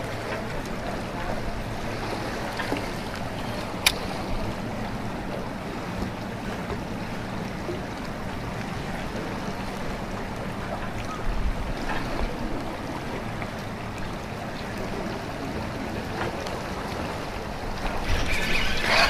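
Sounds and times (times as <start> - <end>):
water: 0.0 - 19.0
wind: 0.0 - 19.0.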